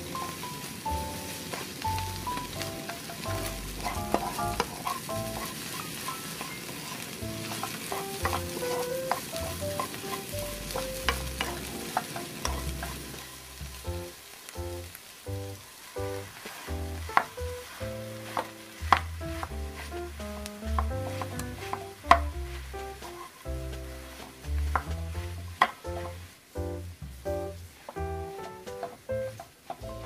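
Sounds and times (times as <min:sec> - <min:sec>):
food sizzling in a frying pan: 0:00.0 - 0:30.0
wooden spatula scraping a pan: 0:00.0 - 0:30.0.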